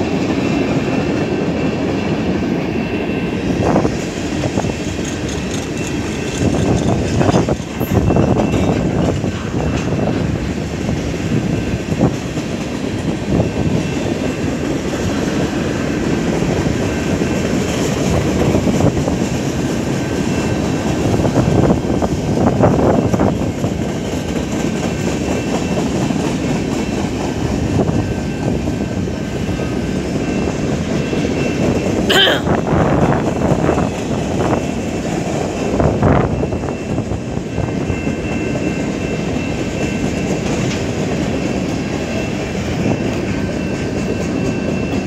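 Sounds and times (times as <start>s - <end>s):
freight train wheels rumbling on rails: 0.0s - 45.0s.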